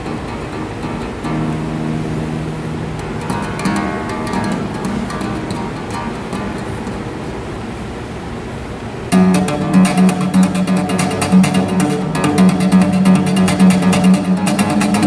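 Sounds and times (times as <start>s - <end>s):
classical guitar playing: 0.0s - 7.7s, 9.1s - 15.0s.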